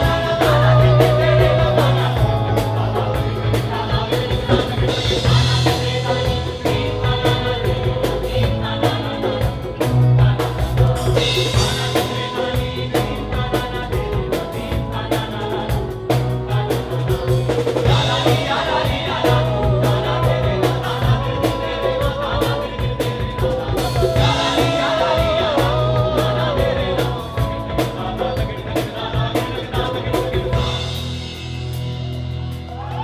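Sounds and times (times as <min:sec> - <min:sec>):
band music with drums and bass: 0:00.0 - 0:33.0.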